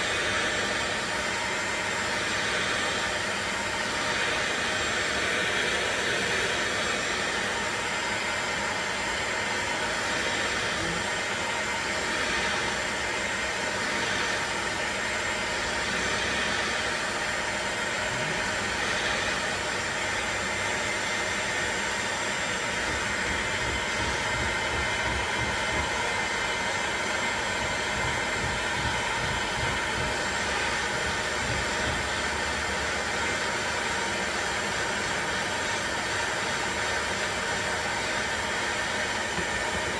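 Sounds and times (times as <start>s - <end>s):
heat gun blowing: 0.0s - 39.9s.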